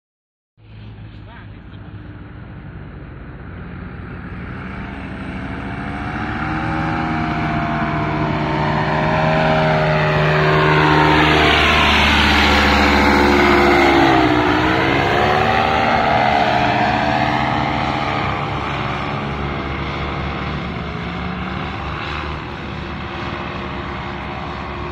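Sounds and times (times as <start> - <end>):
paramotor engine and propeller: 0.6 - 24.9.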